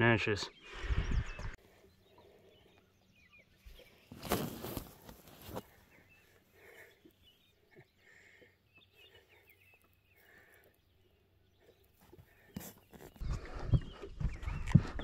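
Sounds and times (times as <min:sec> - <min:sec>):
faint bird chirps: 0:00.2 - 0:15.0.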